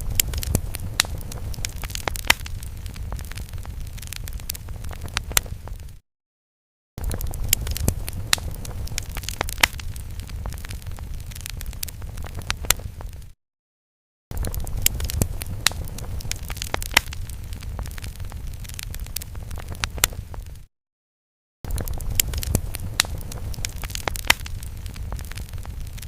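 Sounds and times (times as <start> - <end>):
fire crackling and popping: 0.0 - 6.0, 7.0 - 13.4, 14.3 - 20.7, 21.7 - 26.0
low fire rumble: 0.0 - 6.0, 7.0 - 13.4, 14.3 - 20.7, 21.7 - 26.0.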